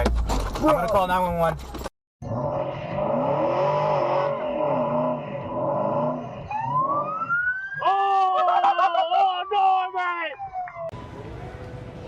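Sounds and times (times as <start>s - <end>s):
road noise: 0.0s - 7.8s, 9.4s - 12.0s.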